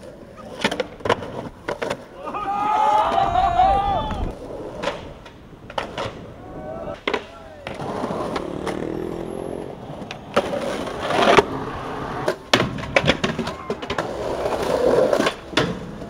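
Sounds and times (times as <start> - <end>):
skateboard clacking on concrete: 0.0 - 2.2, 4.3 - 16.0
skateboard wheels rolling on pavement: 0.0 - 16.0.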